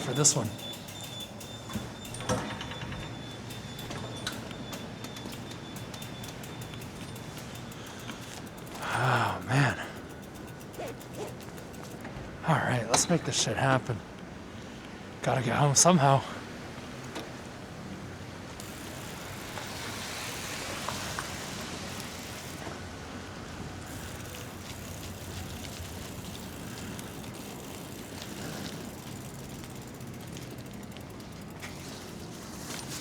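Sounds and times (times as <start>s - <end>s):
bicycle tyres through slush: 0.0s - 12.7s, 16.3s - 33.0s.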